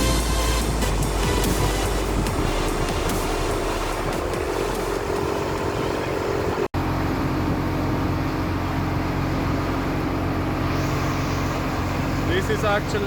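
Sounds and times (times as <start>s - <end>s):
boat engine humming: 0.0s - 13.0s
wind and water noise: 0.0s - 13.0s.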